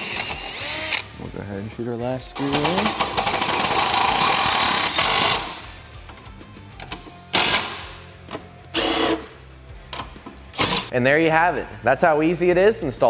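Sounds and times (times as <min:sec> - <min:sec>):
background music with low beat: 0:00.3 - 0:13.0.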